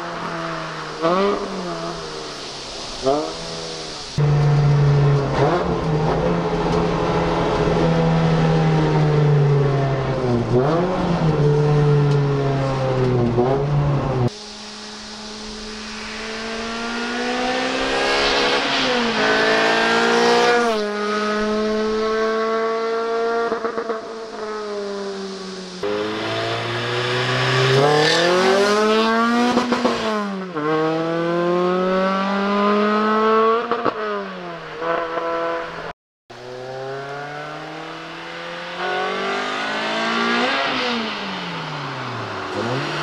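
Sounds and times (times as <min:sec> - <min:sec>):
car engine accelerating hard: 0:04.2 - 0:34.0, 0:36.3 - 0:43.0.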